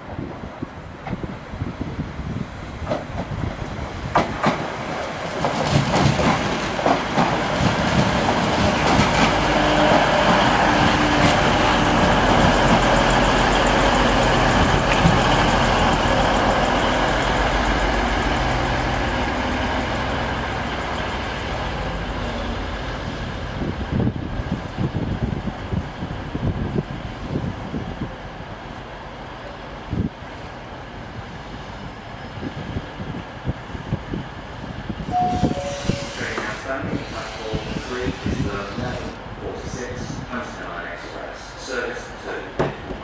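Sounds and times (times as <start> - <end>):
diesel train passing: 0.0 - 43.0.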